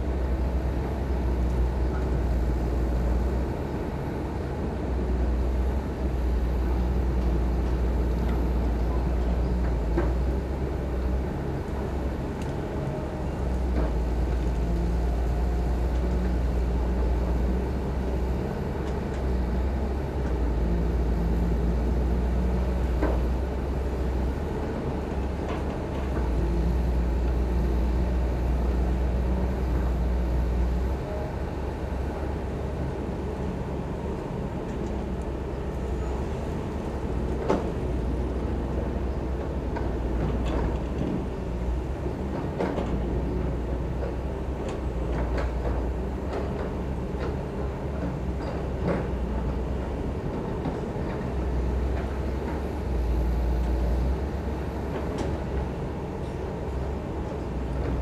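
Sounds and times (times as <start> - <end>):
excavator diesel engine rumble: 0.0 - 58.0.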